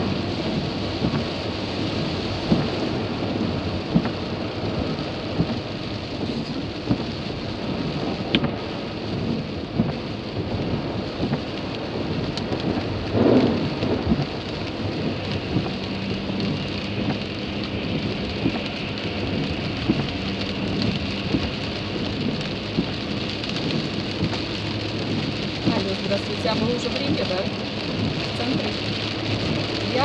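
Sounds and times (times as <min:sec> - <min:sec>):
heavy rain on car: 0:00.0 - 0:30.0
rush of rain: 0:00.0 - 0:30.0.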